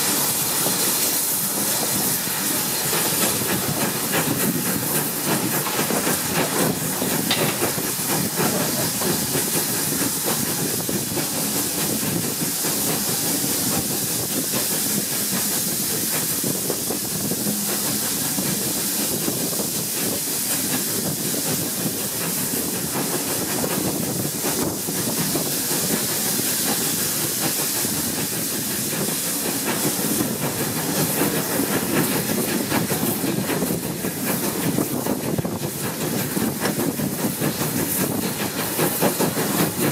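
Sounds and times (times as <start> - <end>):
carriage wheels on rails: 0.0 - 39.9
steam locomotive hiss and exhaust: 0.0 - 39.9.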